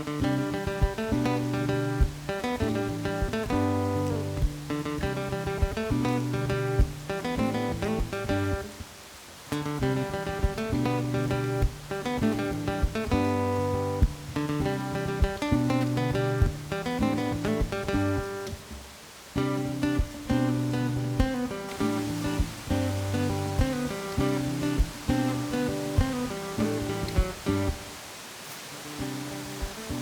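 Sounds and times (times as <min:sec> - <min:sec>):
acoustic guitar picking and strumming: 0:00.0 - 0:28.0, 0:28.9 - 0:30.0.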